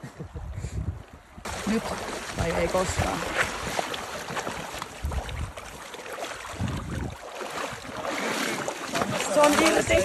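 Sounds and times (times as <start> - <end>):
river water splashing: 1.3 - 10.0
fish thrashing in water: 1.5 - 10.0.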